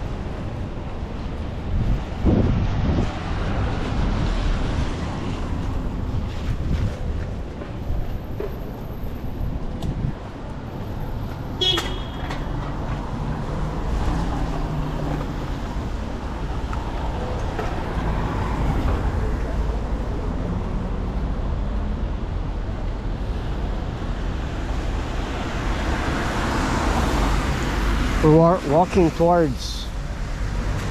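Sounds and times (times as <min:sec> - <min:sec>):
cars and buses going by: 0:00.0 - 0:30.9.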